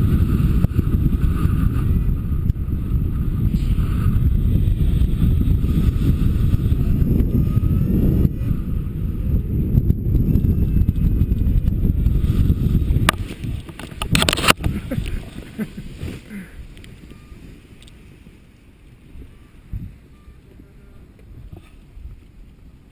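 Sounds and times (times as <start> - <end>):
wind rumbling on microphone: 0.0 - 22.9.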